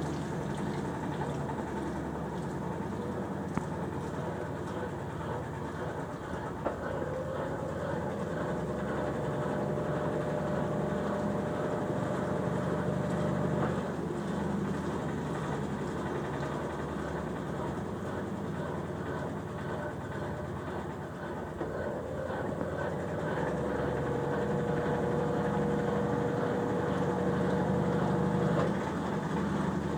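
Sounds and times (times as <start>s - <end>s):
washing machine churning: 0.0s - 29.9s.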